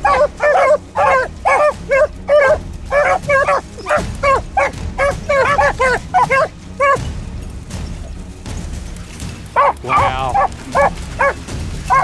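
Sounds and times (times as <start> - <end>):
dogs baying: 0.0 - 8.3, 9.4 - 12.0.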